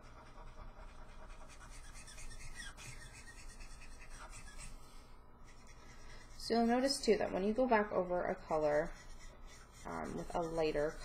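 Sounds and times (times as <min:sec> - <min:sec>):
marker scratching on paper: 0:00.0 - 0:04.8, 0:05.5 - 0:07.4, 0:08.3 - 0:11.0.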